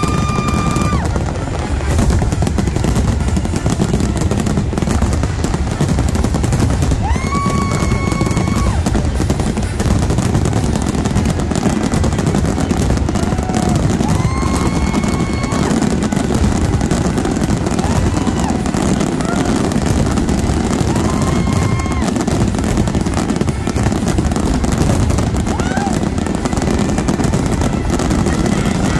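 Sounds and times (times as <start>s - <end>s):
fireworks bursts and crackling: 0.0s - 28.9s
heavy low rumble: 0.0s - 28.9s.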